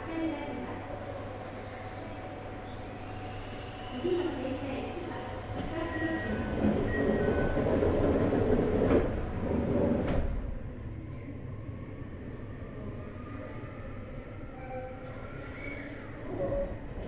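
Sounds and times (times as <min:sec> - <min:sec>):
train wheel and motor rumble: 0:00.0 - 0:17.0.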